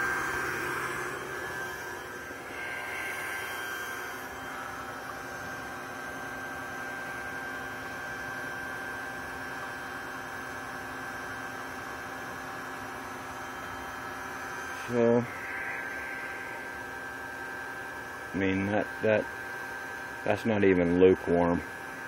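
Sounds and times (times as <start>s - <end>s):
machine hum with hiss: 0.0s - 22.0s.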